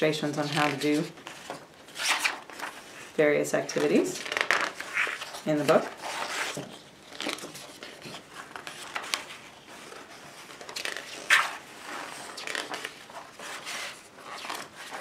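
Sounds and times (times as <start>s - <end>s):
book pages turning: 0.4s - 3.1s, 3.7s - 15.0s.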